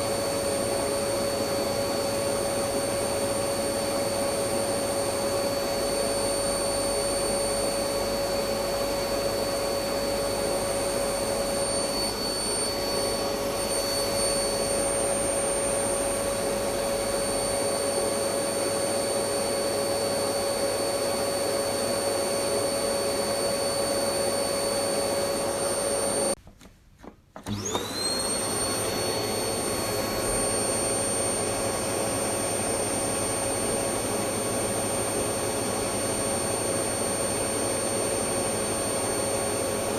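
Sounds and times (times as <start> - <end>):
vacuum cleaner motor whine: 0.0 - 26.4, 27.4 - 39.9.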